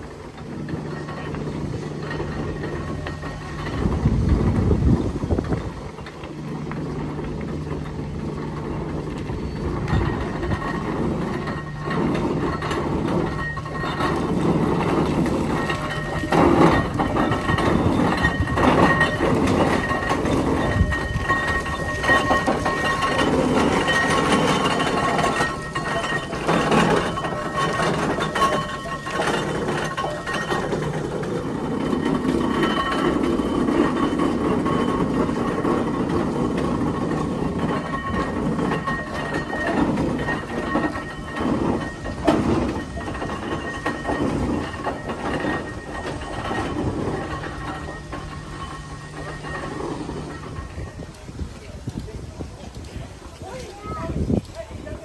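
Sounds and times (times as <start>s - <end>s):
low steady hum: 0.0s - 53.9s
steam traction engine clatter: 0.0s - 55.0s.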